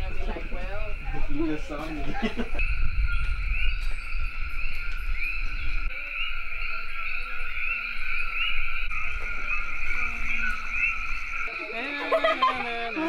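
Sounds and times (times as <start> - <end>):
chorus of frogs calling: 0.0 - 13.0.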